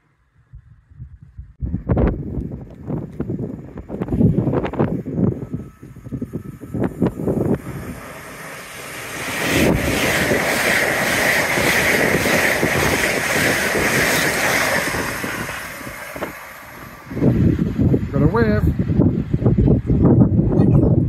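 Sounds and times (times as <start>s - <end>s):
high-speed train passing: 1.6s - 21.0s.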